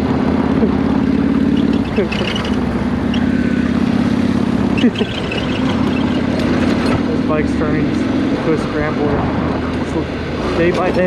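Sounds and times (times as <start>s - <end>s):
motorcycle engine running: 0.0s - 11.0s
motorcycle rattling: 0.0s - 11.0s.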